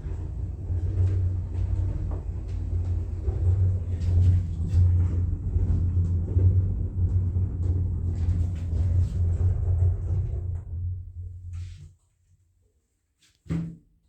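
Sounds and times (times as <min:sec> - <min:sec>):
lift car rumble: 0:00.0 - 0:11.5.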